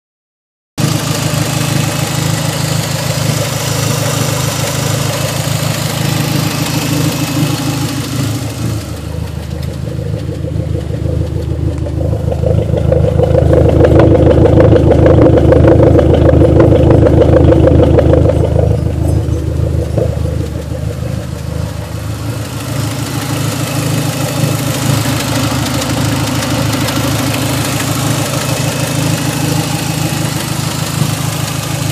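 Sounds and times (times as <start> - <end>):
car engine idling: 0.8 - 31.9.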